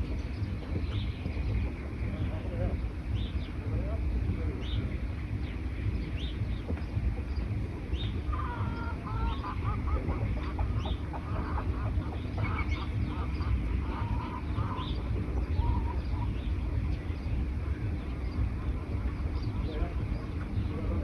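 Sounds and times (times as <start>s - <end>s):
rapid lower bird calls: 0.0s - 21.0s
steady low rumble: 0.0s - 21.0s.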